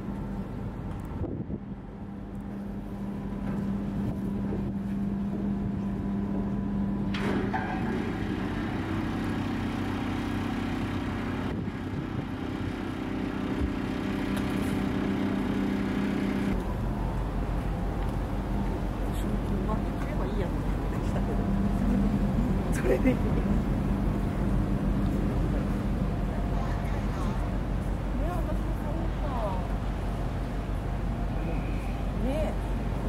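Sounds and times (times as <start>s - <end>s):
ship machinery hum: 0.0s - 33.0s.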